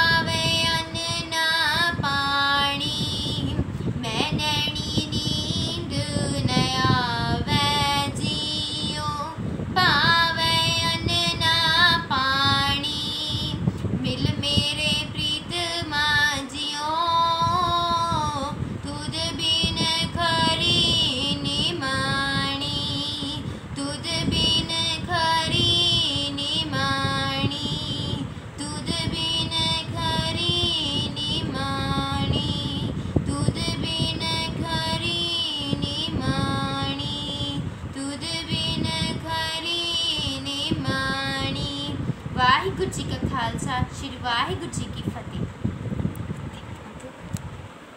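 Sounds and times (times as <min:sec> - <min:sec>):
girl singing a hymn: 0:00.0 - 0:45.6.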